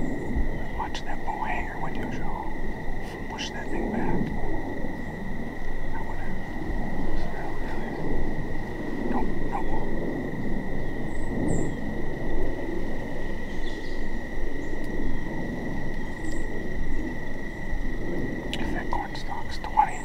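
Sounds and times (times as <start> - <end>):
insects calling: 0.0 - 20.0
low rumbling noise: 0.0 - 20.0.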